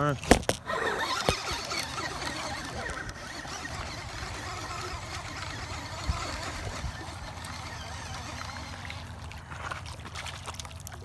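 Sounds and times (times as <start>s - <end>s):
fishing reel whirring: 0.5s - 9.6s.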